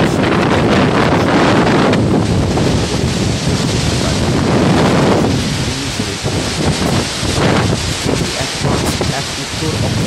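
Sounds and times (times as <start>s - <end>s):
wind buffeting the microphone: 0.0s - 10.0s.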